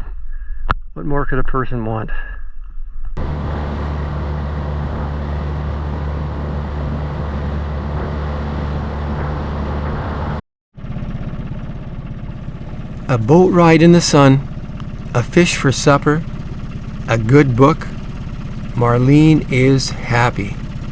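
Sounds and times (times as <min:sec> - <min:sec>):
outboard motor humming: 0:03.2 - 0:20.9.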